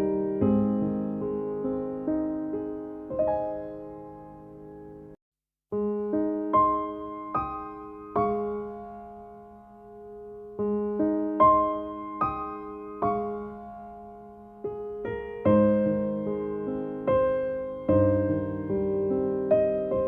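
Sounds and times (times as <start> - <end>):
slow solo piano music: 0.0 - 20.0.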